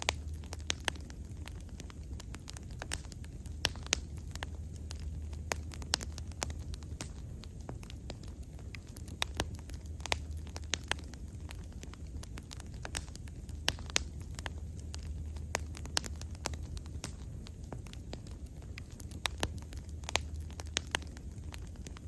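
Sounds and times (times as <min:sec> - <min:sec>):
bonfire crackling and popping: 0:00.0 - 0:22.0
low rumble of flames: 0:00.0 - 0:22.0.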